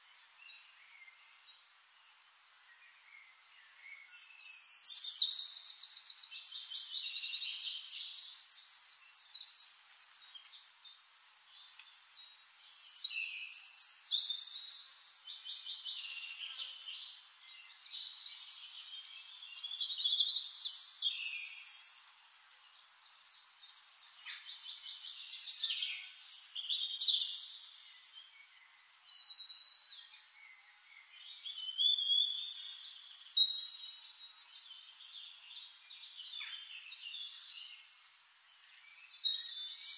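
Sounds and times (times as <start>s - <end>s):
quiet bird chirps: 0.0s - 39.9s
songbird singing trills: 2.7s - 39.9s.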